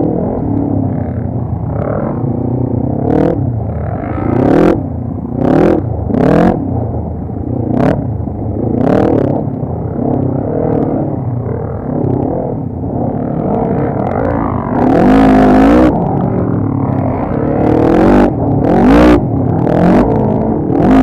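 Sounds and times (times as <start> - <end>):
atv engines revving: 0.0 - 21.0.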